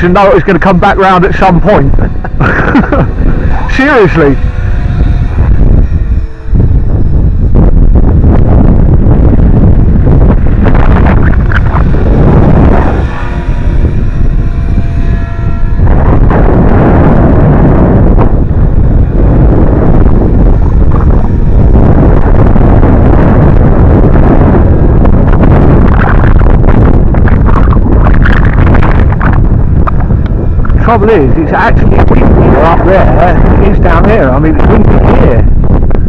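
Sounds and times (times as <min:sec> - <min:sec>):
rc helicopter whine: 0:00.0 - 0:36.0
wind buffeting microphone: 0:00.0 - 0:36.0.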